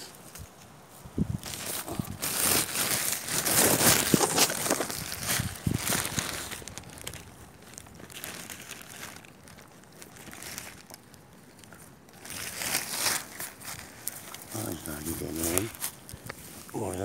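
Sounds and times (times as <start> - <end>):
plastic bag crinkling: 1.4 - 17.0.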